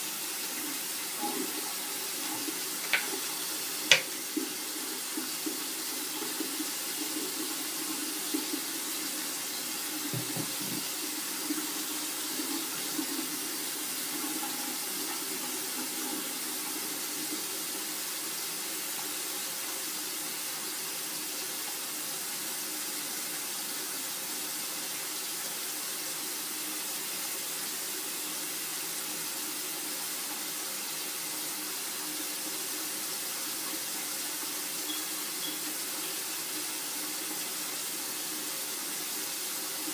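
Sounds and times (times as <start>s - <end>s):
tap water running into sink: 0.0s - 39.9s.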